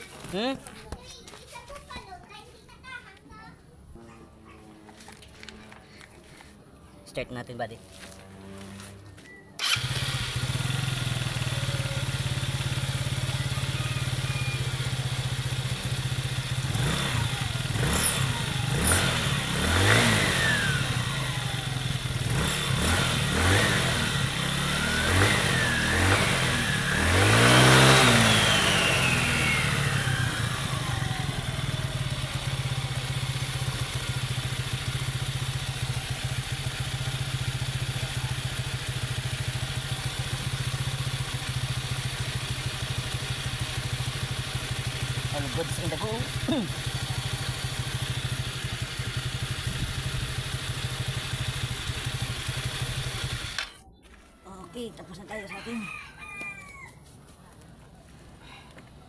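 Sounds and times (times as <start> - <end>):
scooter engine idling and revving: 0.0 - 1.4, 3.9 - 59.0.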